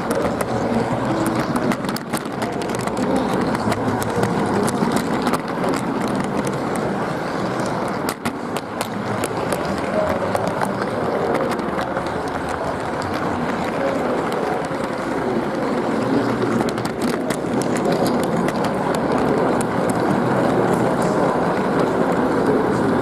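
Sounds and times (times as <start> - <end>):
model train wheels rumbling: 0.0 - 23.0.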